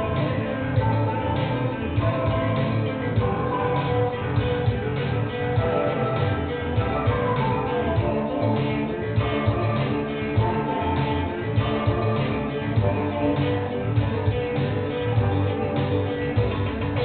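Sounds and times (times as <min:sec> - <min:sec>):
live rock metal band with guitar: 0:00.0 - 0:17.0.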